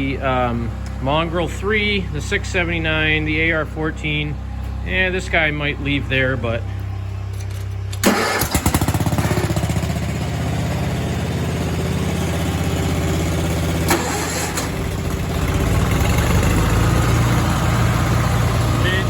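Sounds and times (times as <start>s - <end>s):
tractor engine cranking and running: 0.0s - 19.0s.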